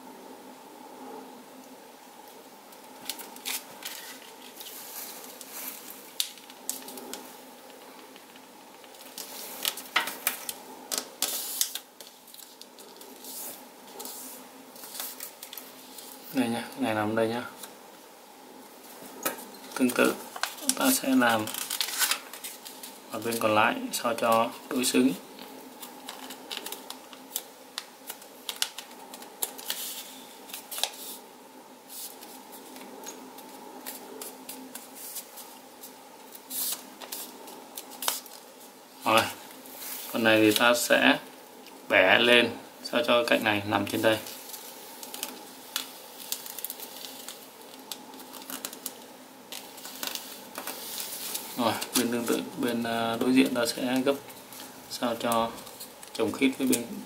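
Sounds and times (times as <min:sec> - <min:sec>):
faint steady hum: 0:00.0 - 0:57.0
folded paper crackling and rustling: 0:02.7 - 0:16.6, 0:18.9 - 0:31.2, 0:31.9 - 0:41.2, 0:43.3 - 0:56.9.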